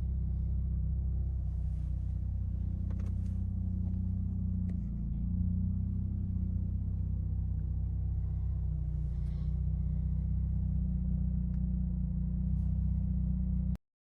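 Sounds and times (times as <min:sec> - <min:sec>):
rotary engine idling: 0:00.0 - 0:13.2.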